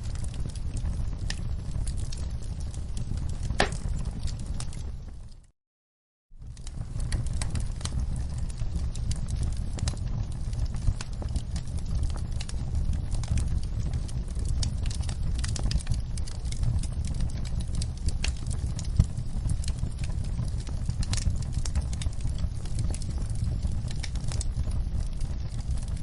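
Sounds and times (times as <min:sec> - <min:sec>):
campfire flames rumbling: 0:00.0 - 0:05.5, 0:06.3 - 0:26.0
fire crackles and pops: 0:00.0 - 0:05.5, 0:06.3 - 0:26.0.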